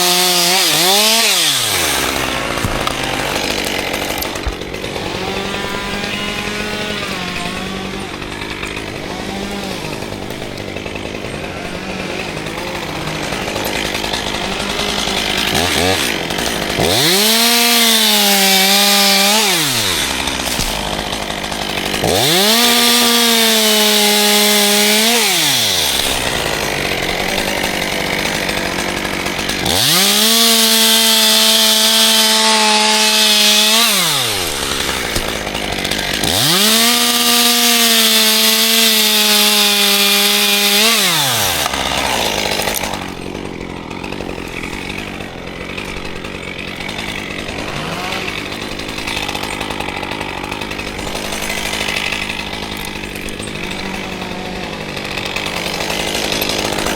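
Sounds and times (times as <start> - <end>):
chainsaw engine revving: 0.0 - 56.9.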